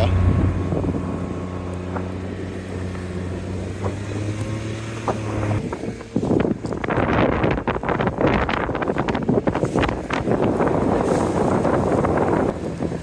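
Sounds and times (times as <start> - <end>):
car engine droning: 0.0 - 13.0
wind on microphone: 0.0 - 13.0.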